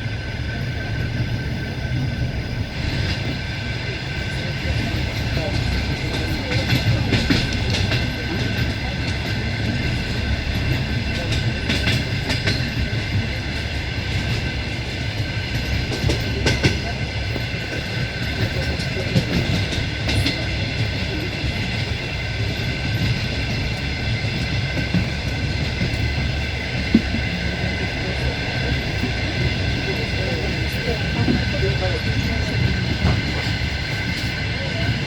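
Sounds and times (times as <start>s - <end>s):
train wheels rumbling on rail: 0.0s - 35.0s
wheels clicking over rail joints: 4.7s - 35.0s.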